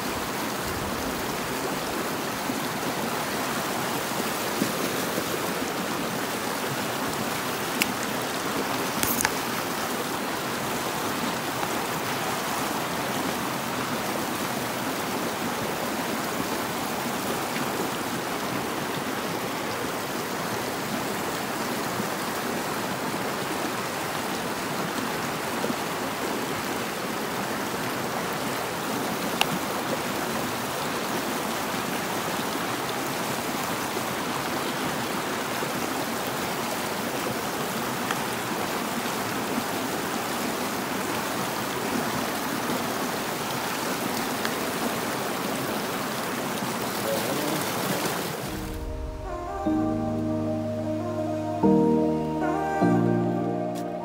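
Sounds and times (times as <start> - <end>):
river water rushing over boulders: 0.0 - 50.2.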